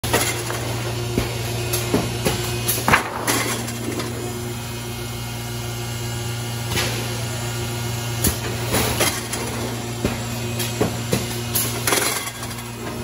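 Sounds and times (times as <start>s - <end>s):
thermoformer machine hum: 0.0s - 13.0s.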